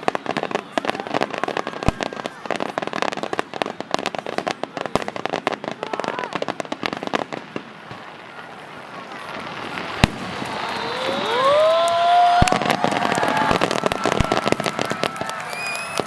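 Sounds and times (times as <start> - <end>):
crowd saying ooh: 0.0 - 4.0, 4.8 - 6.6, 8.2 - 16.0
fireworks bang: 0.0 - 16.0
fireworks crackling and popping: 0.0 - 16.0.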